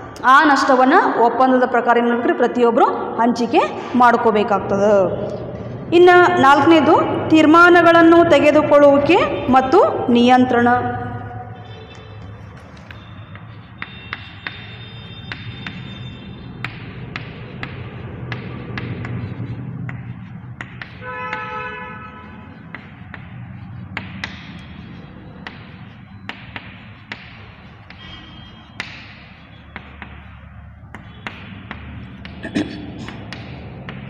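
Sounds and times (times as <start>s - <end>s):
steady low hum: 2.8s - 34.0s
chalk tapping on chalkboard: 6.7s - 34.0s.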